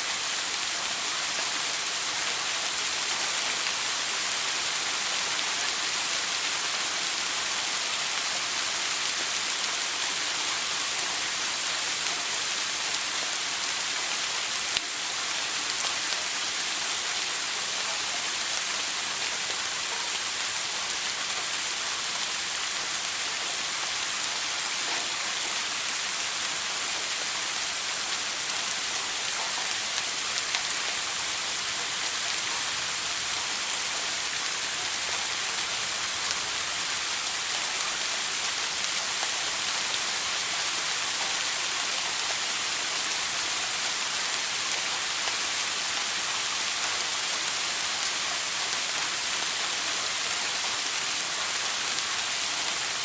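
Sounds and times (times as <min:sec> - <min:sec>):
shower water spraying: 0:00.1 - 0:53.0.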